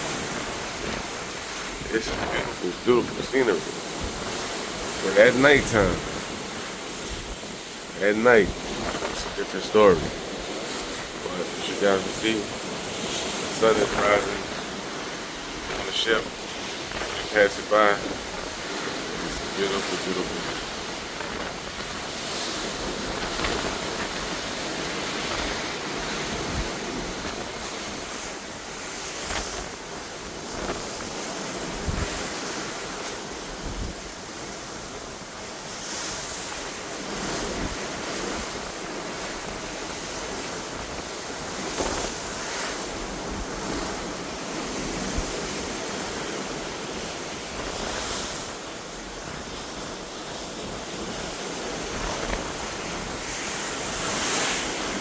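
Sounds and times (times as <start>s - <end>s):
rush of churned sea water: 0.0s - 55.0s
wind buffeting microphone: 0.0s - 55.0s.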